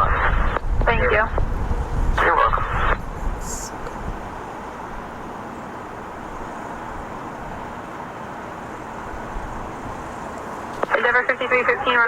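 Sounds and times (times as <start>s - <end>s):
airport background noise: 0.0s - 12.0s.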